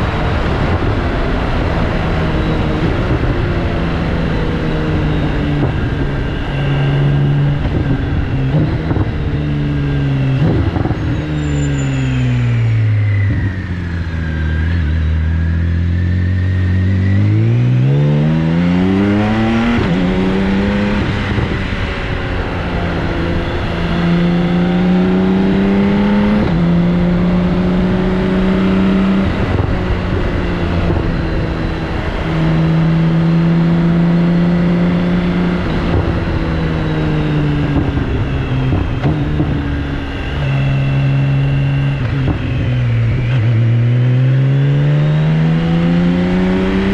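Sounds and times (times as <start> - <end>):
motorcycle engine while riding: 0.0 - 46.9.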